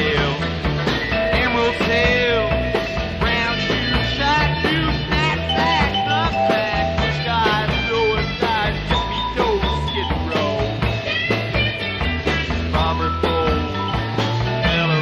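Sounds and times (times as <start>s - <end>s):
psychedelic rock band playing: 0.0s - 15.0s.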